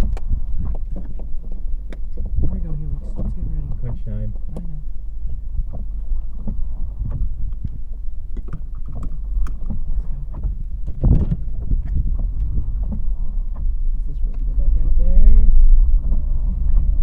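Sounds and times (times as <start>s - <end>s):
knocks and clicks: 0.0s - 4.8s, 5.6s - 14.7s
road and wind noise in car: 0.0s - 17.0s.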